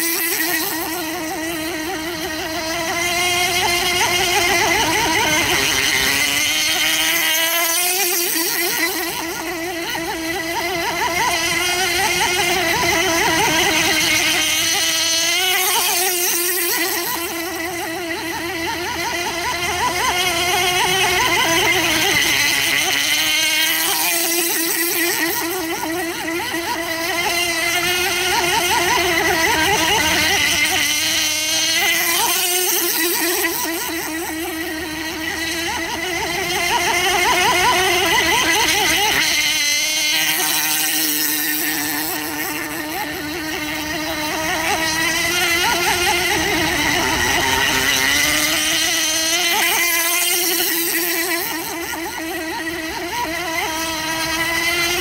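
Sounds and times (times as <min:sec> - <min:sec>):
model boat engine buzzing: 0:00.0 - 0:55.0.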